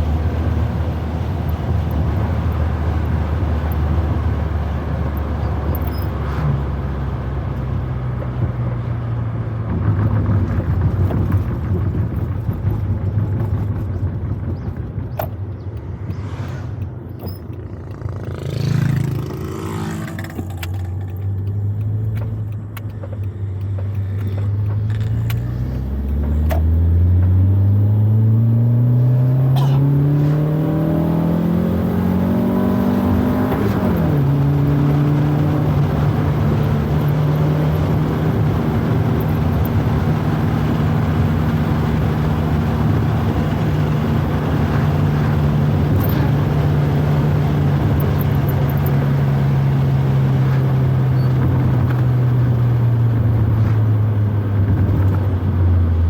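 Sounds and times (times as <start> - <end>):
car engine revving: 9.5 - 56.0.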